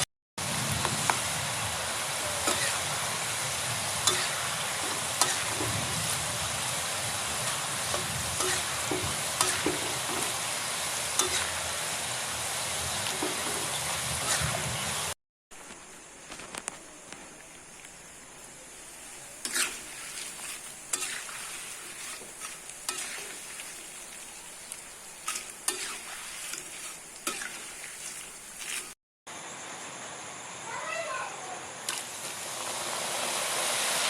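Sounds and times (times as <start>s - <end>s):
food sizzling in hot oil: 0.4s - 15.2s, 17.4s - 29.0s, 31.9s - 34.0s.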